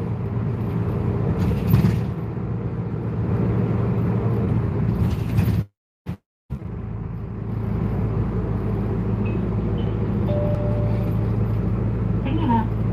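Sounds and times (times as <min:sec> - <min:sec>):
bus engine and road noise: 0:00.0 - 0:12.9.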